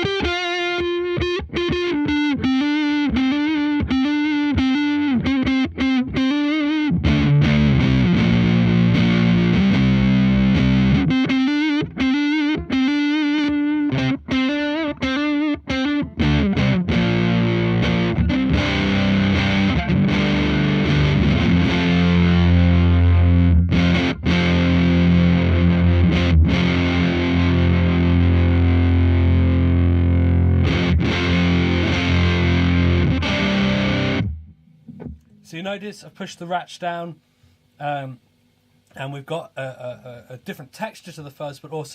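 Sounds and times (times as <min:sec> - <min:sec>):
fuzzed electric guitar: 0:00.0 - 0:35.6.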